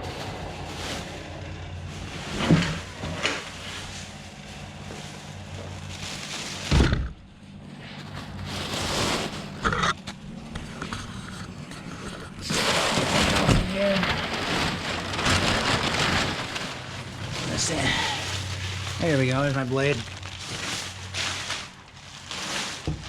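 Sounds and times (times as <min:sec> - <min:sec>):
packing material scraping and rustling: 0:00.0 - 0:23.0.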